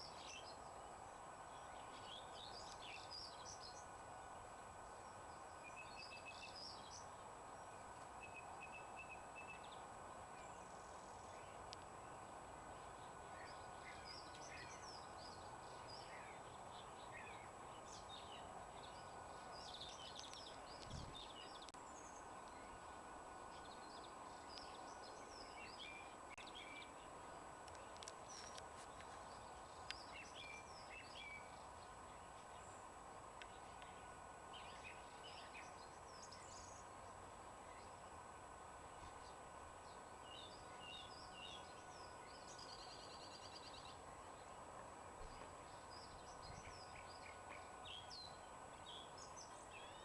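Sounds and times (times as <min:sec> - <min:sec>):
faint outdoor hiss: 0:00.0 - 0:50.0
songbirds chirping: 0:00.0 - 0:50.0.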